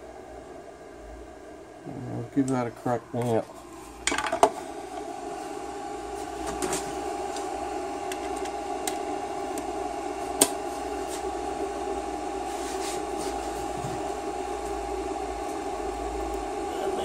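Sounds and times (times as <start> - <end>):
fan whir: 0.0 - 17.0
induction heater whine: 0.0 - 17.0.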